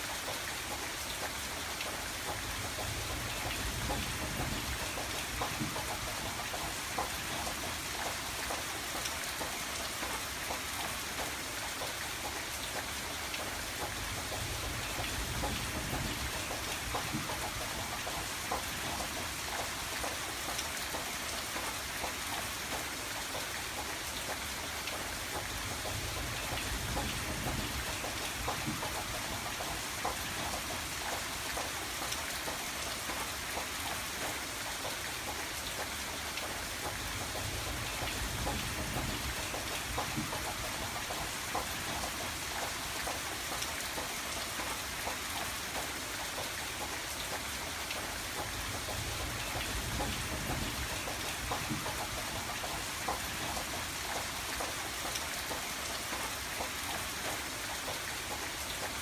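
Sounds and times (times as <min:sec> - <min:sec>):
rain ticking on window glass: 0:00.0 - 0:59.0.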